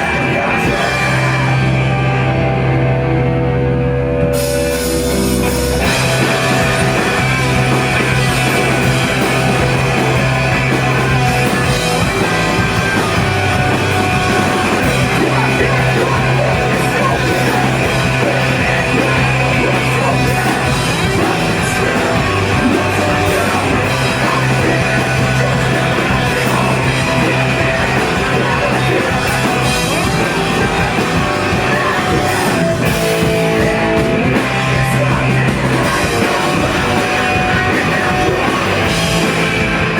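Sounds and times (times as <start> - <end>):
heavy rock band playing live: 0.0 - 39.9.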